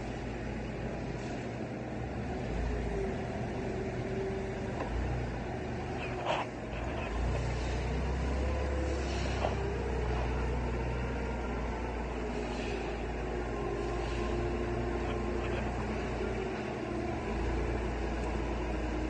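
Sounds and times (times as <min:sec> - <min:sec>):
forklift engine humming: 0:00.0 - 0:19.0.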